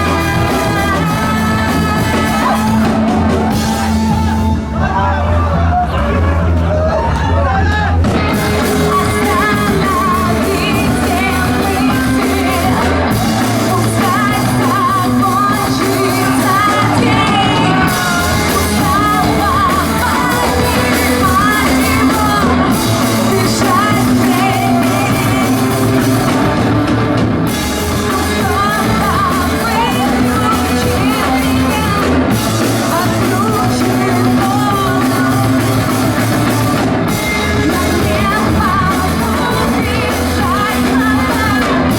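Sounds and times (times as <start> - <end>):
bass guitar: 0.0 - 41.9
drum kit: 0.0 - 41.9
electric guitars: 0.0 - 41.9
person singing: 0.0 - 41.9.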